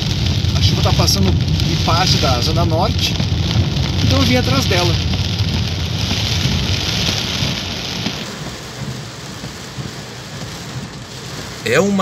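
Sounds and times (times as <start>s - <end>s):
low rumble: 0.0s - 12.0s
torrential rain hissing: 0.0s - 12.0s.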